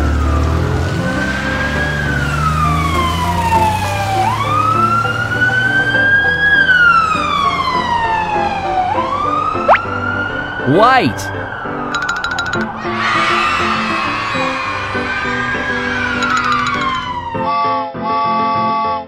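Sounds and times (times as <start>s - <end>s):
ambulance siren wailing: 0.0s - 11.9s, 12.6s - 17.7s.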